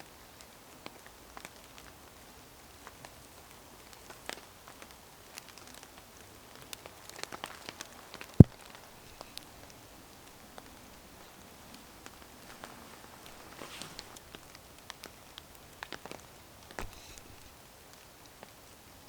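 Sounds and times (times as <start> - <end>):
raindrops tapping on tent fabric: 0.1 - 18.7.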